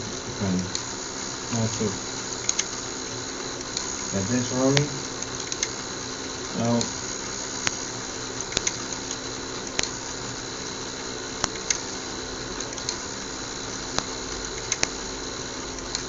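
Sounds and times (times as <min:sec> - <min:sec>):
mechanism clicks: 0:00.0 - 0:15.0, 0:15.6 - 0:16.0
small electric motors humming: 0:00.0 - 0:16.0.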